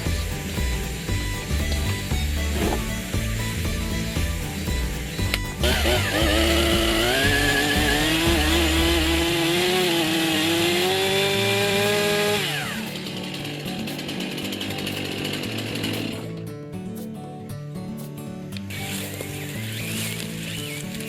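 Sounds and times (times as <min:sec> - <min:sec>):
chainsaw running: 0:00.0 - 0:16.5, 0:18.7 - 0:21.0.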